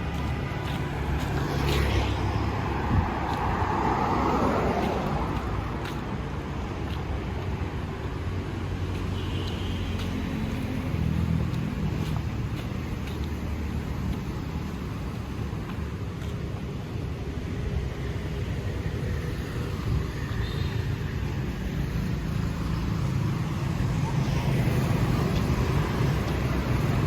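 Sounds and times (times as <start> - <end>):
street traffic engines: 0.0 - 27.0.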